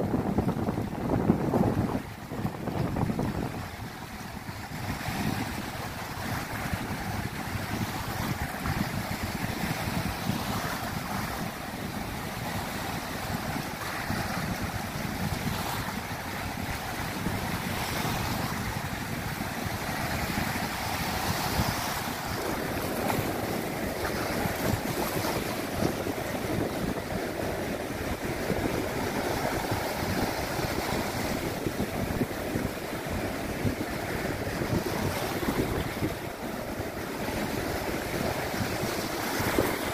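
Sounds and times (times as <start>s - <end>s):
waves washing over rocks: 0.0s - 39.9s
wind buffeting microphone: 0.0s - 39.9s.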